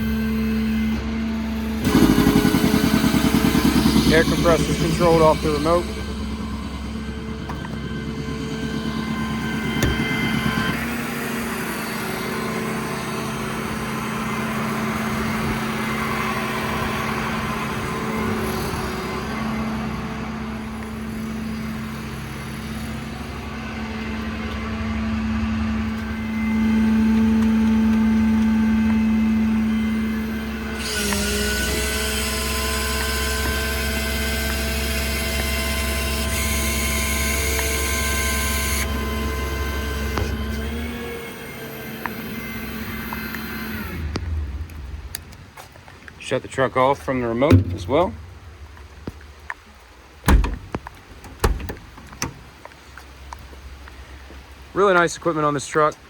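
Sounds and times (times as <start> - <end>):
air compressor humming: 0.0 - 44.1, 47.1 - 48.8
diesel engine: 0.0 - 56.0.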